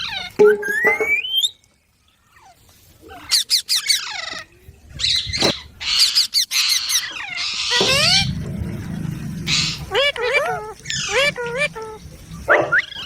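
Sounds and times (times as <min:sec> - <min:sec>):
parrot squawking: 0:00.0 - 0:01.4, 0:03.2 - 0:13.0.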